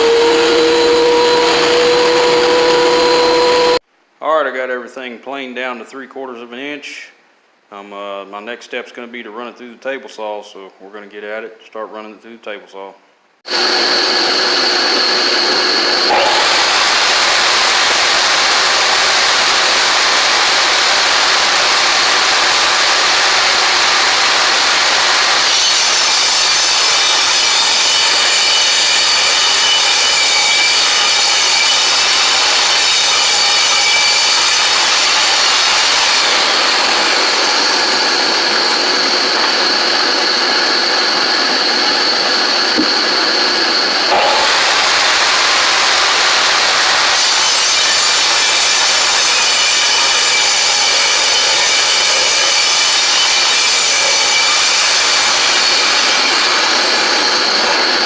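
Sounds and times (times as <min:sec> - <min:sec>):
table saw ripping wood: 0:00.0 - 0:03.8, 0:13.5 - 0:58.0.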